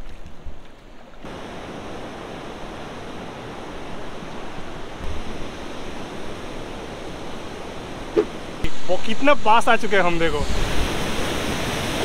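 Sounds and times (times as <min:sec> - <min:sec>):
waterfall roaring: 0:01.2 - 0:12.0.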